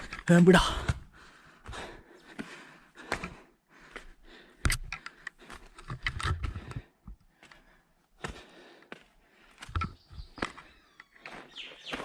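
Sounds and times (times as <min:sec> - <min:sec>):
footsteps on rock and sand: 0:00.0 - 0:12.0.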